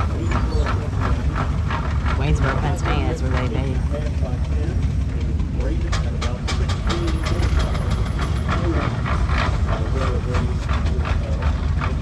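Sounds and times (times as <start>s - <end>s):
steam engine exhaust chuffing: 0.0s - 12.0s.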